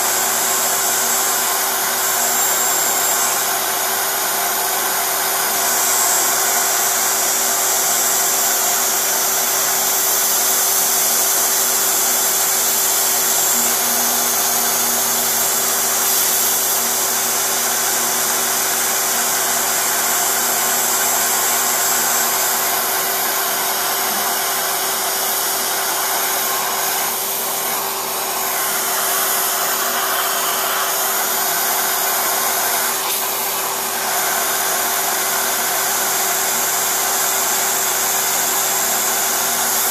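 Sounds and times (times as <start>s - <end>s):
end mill cutting plastic: 0.0s - 39.9s
router spindle motor running: 0.0s - 39.9s.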